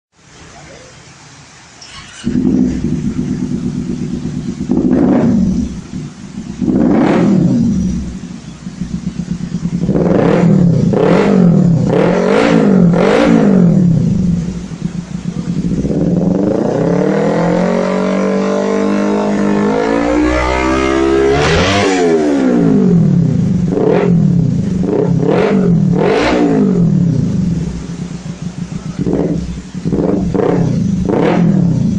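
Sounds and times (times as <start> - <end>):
motorcycle engine revving: 1.8 - 31.9.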